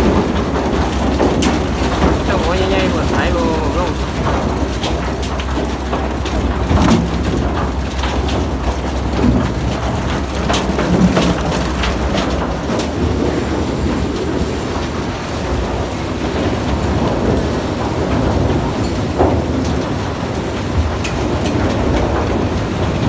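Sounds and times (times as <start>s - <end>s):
low machine drone: 0.0s - 23.0s
roots clattering out of truck bed: 0.0s - 23.0s.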